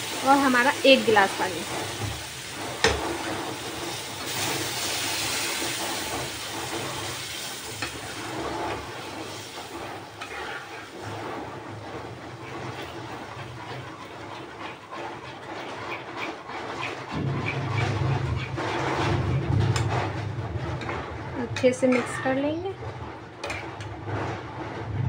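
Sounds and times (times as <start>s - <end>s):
water sizzling in hot pan: 0.0s - 22.6s.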